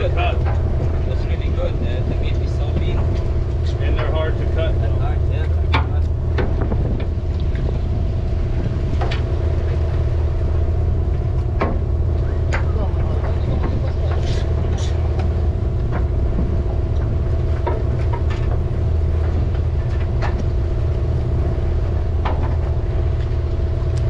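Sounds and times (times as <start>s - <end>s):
boat engine droning: 0.0s - 24.0s
constant hum: 0.0s - 24.0s.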